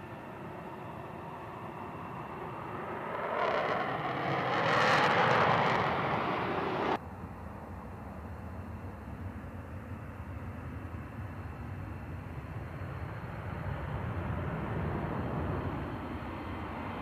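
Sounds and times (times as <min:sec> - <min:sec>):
jet engines on afterburner: 0:00.0 - 0:07.0, 0:07.9 - 0:17.0
steady jet engine noise: 0:00.0 - 0:17.0.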